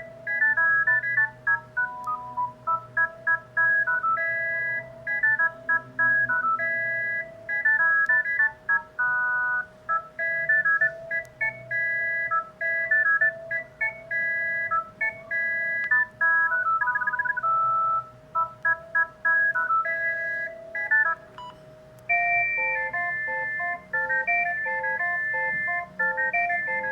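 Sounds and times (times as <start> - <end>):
phone ringtone beeping tune: 0.0 - 26.9.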